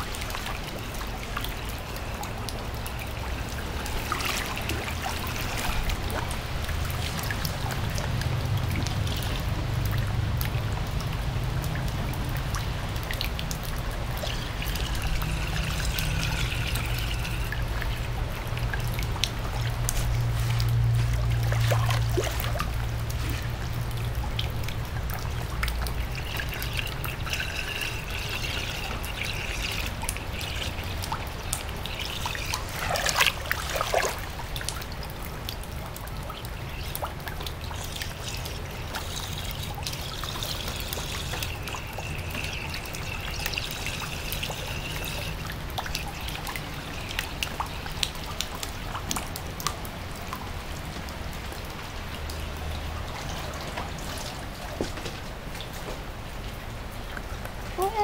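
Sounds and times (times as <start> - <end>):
rainwater pouring into drain: 0.0 - 58.0
water splashing: 0.0 - 58.0.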